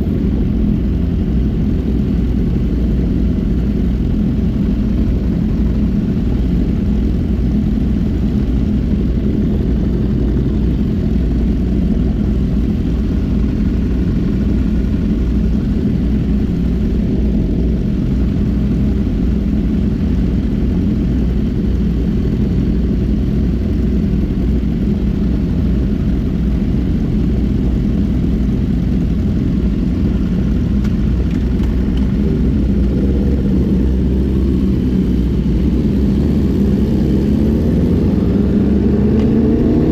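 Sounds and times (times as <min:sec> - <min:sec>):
motorcycle engine drone: 0:00.0 - 0:39.9
wind rumble on microphone: 0:00.0 - 0:39.9.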